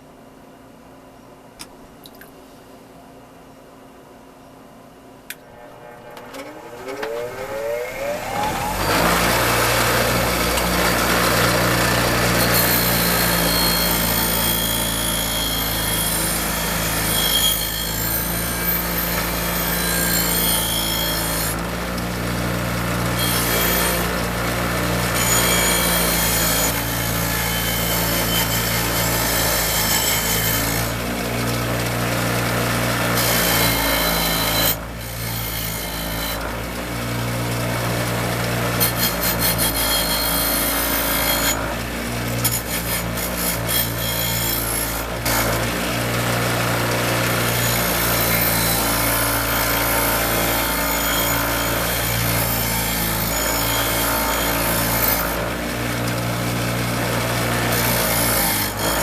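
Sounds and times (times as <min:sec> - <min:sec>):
power tool grinding metal: 0:05.4 - 0:59.0.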